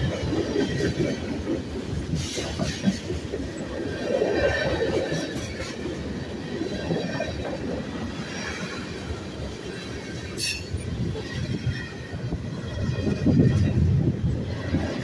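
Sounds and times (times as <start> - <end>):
freight train wheels on rails: 0.0 - 15.0.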